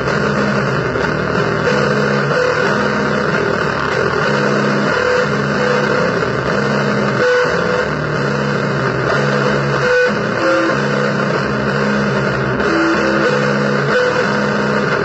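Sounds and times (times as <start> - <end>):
distorted noise music: 0.0 - 15.0
low droning tones: 0.0 - 15.0.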